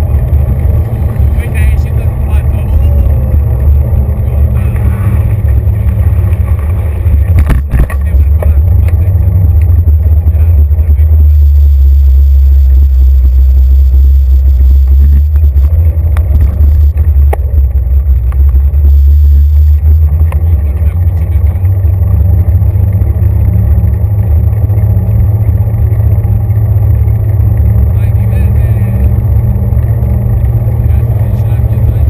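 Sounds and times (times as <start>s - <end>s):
bicycle rolling rumble: 0.0s - 32.0s.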